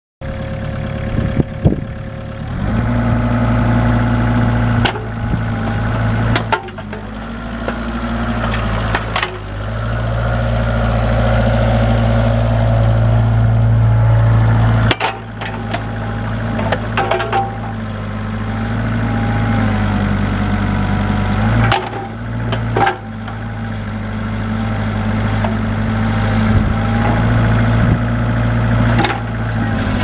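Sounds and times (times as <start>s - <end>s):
excavator diesel engine running: 0.2s - 30.0s.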